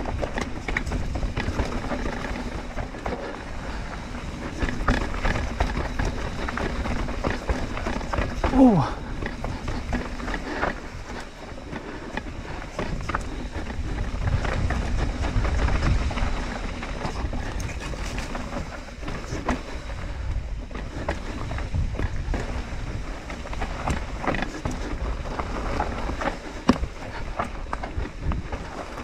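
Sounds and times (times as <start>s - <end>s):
bike clicks and knocks: 0.0s - 8.5s, 9.2s - 29.0s
tyres rolling over dirt: 0.0s - 29.0s
wind buffeting microphone: 0.0s - 29.0s.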